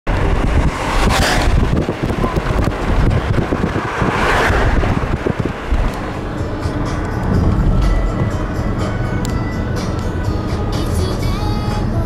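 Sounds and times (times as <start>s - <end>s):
wind buffeting microphone: 0.1s - 10.4s.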